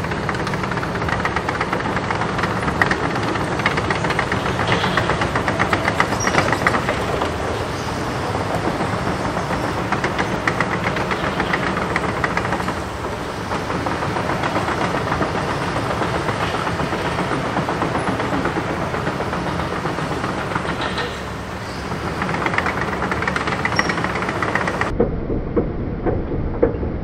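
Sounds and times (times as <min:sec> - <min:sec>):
diesel engine running: 0:00.0 - 0:25.4
track links clicking and clanking: 0:00.0 - 0:25.4.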